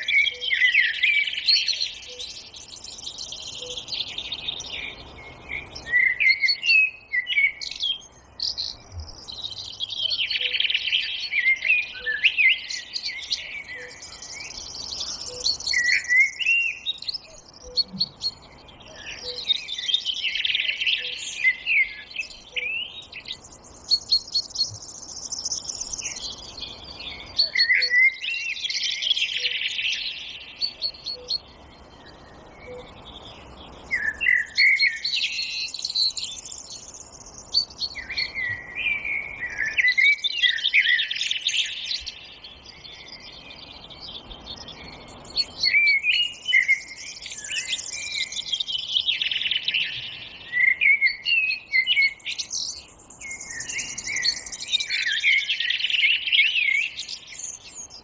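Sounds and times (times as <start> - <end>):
forest birds singing: 0.0 - 58.0.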